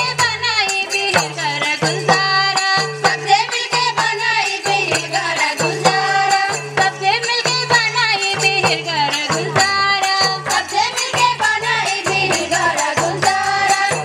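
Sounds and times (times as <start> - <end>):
quick hand-drum beat: 0.0 - 14.0.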